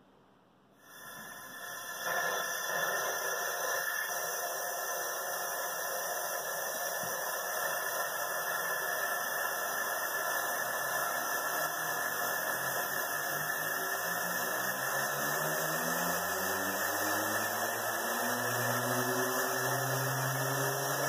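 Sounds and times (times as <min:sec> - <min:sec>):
rushing air hiss: 0:00.8 - 0:21.0
rotor whine: 0:01.0 - 0:21.0.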